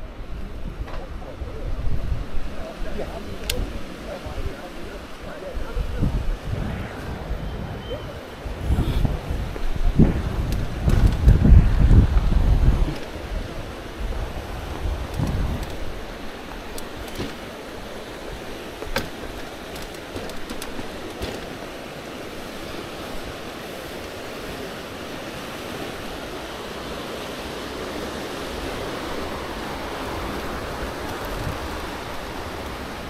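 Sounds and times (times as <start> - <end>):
water rushing over weir: 0.0 - 33.0.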